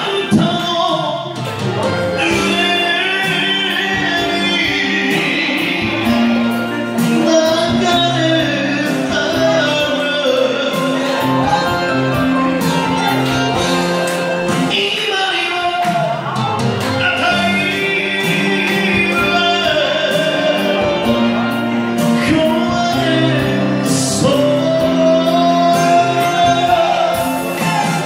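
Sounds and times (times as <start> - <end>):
man singing into microphone: 0.0 - 28.0
recorded backing track: 0.0 - 28.0.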